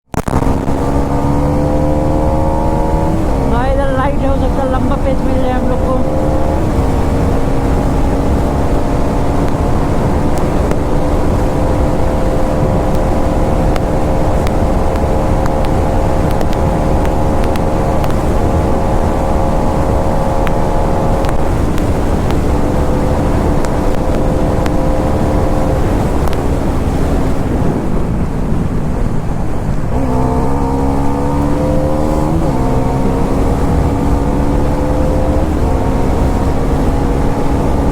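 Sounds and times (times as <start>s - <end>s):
motorcycle engine revving: 0.0s - 37.9s
wind noise on microphone: 0.0s - 37.9s.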